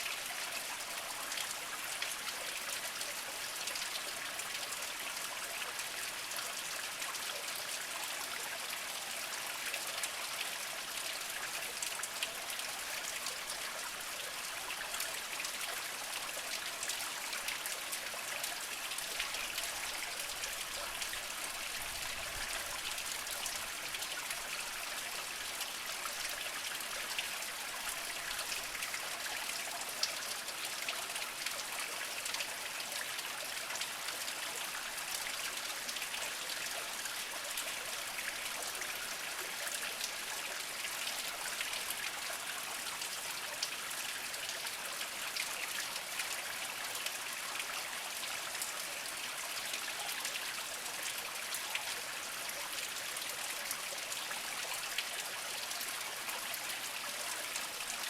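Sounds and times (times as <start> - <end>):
spring water trickling over rocks: 0.0 - 58.0.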